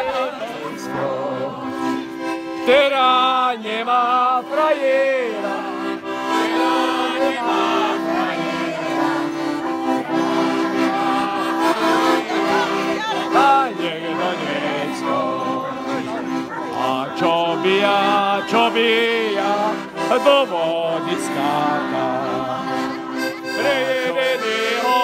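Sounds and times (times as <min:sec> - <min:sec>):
accordion playing folk tune: 0:00.0 - 0:25.0
voices singing along: 0:00.0 - 0:25.0.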